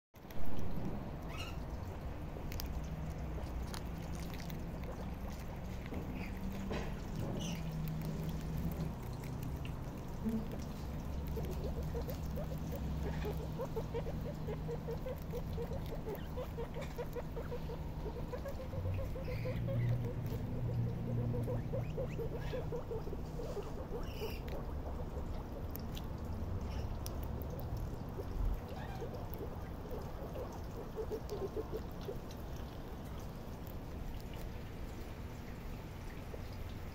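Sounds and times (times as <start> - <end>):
guinea pigs munching leaves: 0.2 - 36.9
low steady hum: 0.2 - 36.9.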